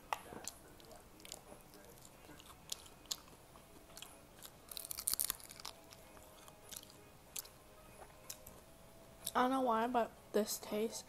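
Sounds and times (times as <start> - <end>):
crunching and chewing fried chicken: 0.1 - 9.4.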